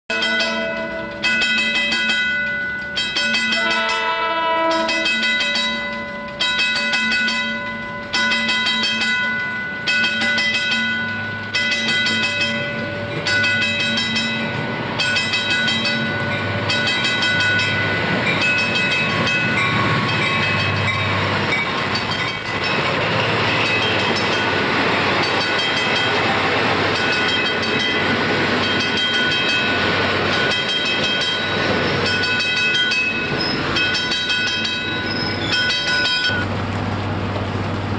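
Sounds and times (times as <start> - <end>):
crossing bell striking: 0.1 - 36.5
diesel locomotive rumble: 0.1 - 37.9
steel wheels rushing on rail: 0.1 - 37.9.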